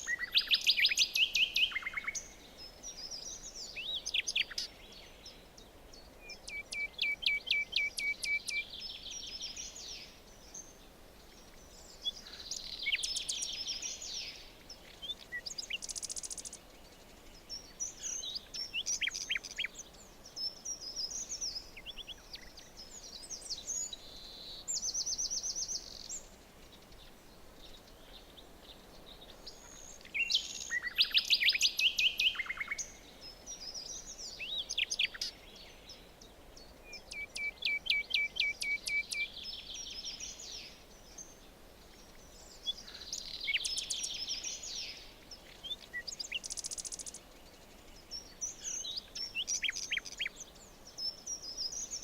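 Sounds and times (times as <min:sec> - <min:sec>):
faint forest ambience hiss: 0:00.0 - 0:52.0
songbirds singing and calling: 0:00.0 - 0:52.0.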